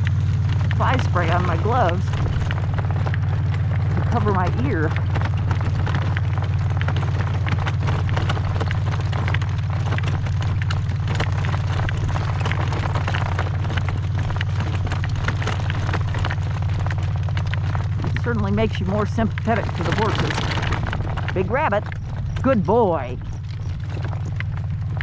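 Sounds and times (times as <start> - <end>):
horse hoofbeats: 0.0 - 25.0
wind buffeting microphone: 0.0 - 25.0.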